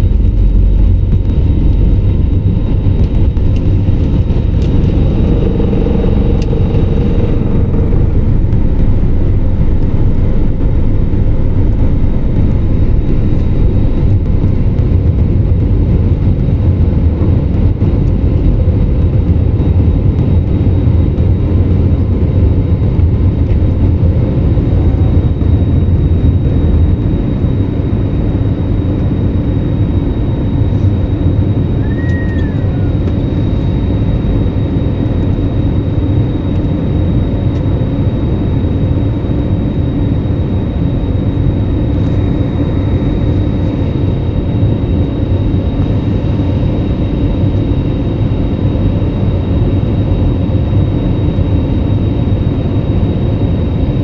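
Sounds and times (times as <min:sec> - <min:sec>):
high jet engine whine: 0:00.0 - 0:54.0
jet engine rumble: 0:00.0 - 0:54.0.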